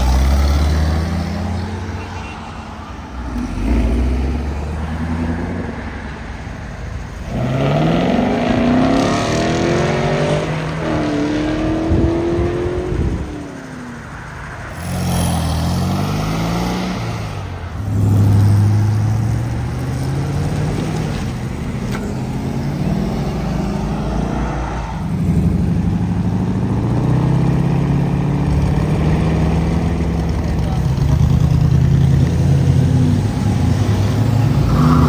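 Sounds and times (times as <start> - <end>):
car engines accelerating: 0.0 - 2.1, 2.8 - 35.0.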